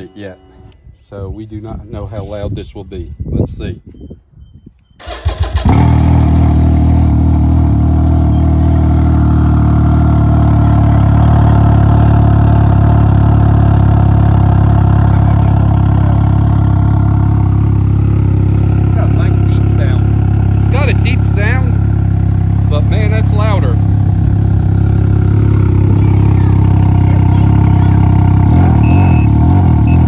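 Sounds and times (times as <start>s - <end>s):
loud deep engine idling: 5.0s - 30.0s.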